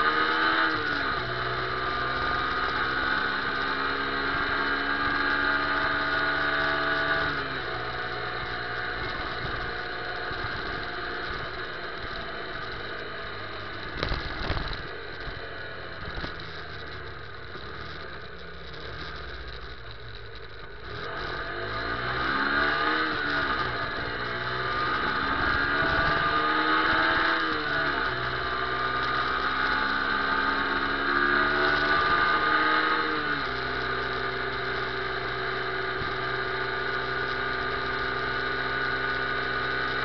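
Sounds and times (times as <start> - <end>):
motorcycle engine running: 0.0 - 40.0
road and wind noise: 0.0 - 40.0.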